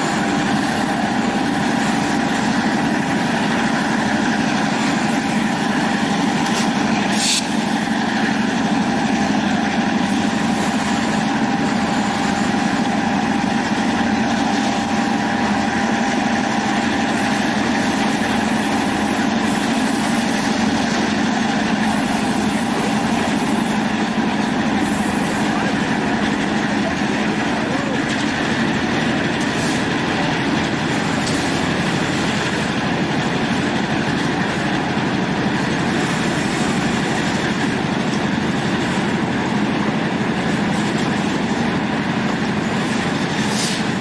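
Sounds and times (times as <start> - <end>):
diesel locomotive engine running: 0.0 - 44.0
train rolling on track: 0.0 - 44.0.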